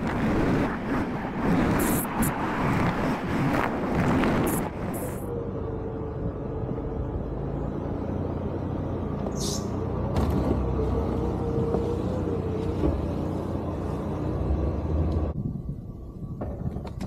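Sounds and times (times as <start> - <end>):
vehicle engine droning: 1.4 - 16.6.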